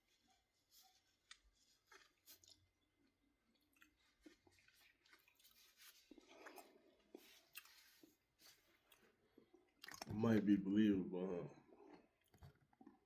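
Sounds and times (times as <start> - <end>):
chewing and crunching popcorn: 0.0 - 10.4, 11.4 - 13.0.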